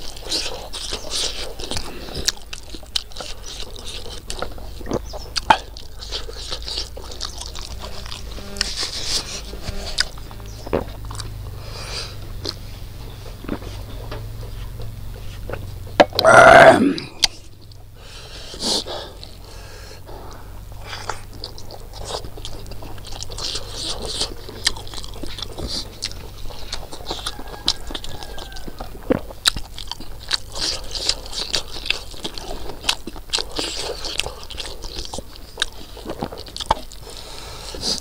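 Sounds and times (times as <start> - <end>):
man chewing food: 0.0 - 38.0.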